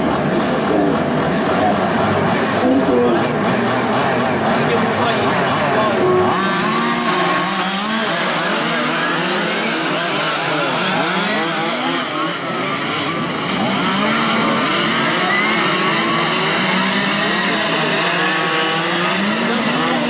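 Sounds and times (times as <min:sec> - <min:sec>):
small two-stroke engines buzzing: 0:00.0 - 0:20.0.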